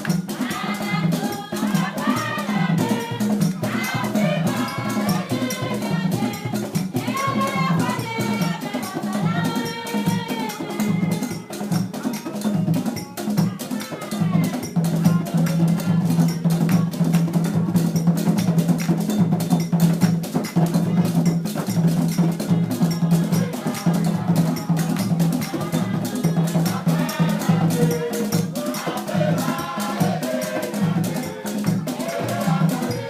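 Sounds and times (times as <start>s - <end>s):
voices singing: 0.0s - 18.0s, 20.6s - 33.0s
bell: 0.0s - 33.0s
drums playing fast rhythm: 0.0s - 33.0s.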